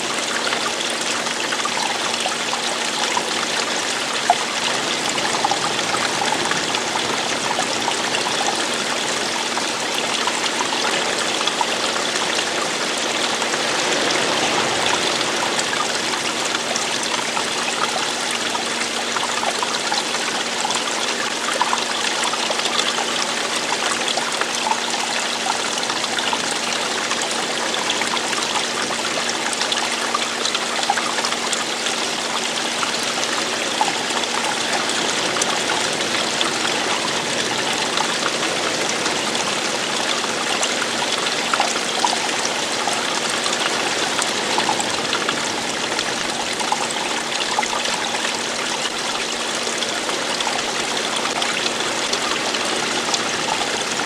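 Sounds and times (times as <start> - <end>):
stream flowing: 0.0 - 54.0
water splashes and drips: 0.0 - 54.0.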